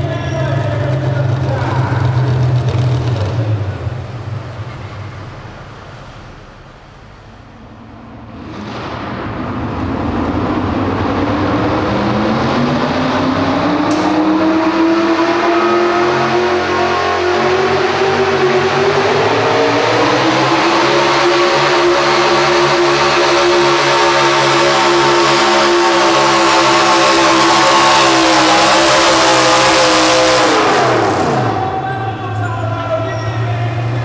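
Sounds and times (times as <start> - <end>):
another engine: 0.0 - 34.0
pulling truck diesel engine revving: 0.0 - 34.0.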